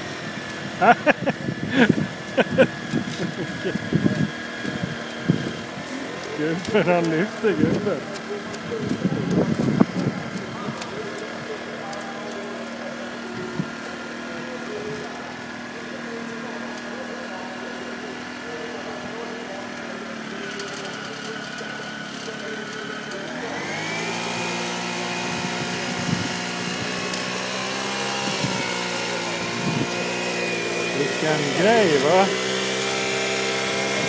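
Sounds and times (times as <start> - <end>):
toy wheel loader mechanical hum: 0.0 - 34.0.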